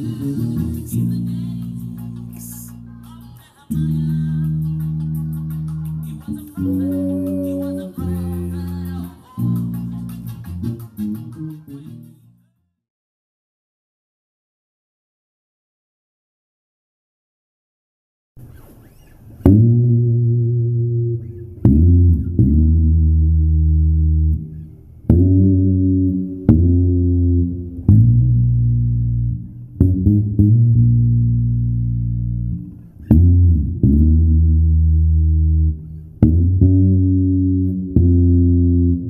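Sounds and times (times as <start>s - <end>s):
electric bass guitar plucked notes: 0.0s - 12.4s, 19.4s - 39.0s.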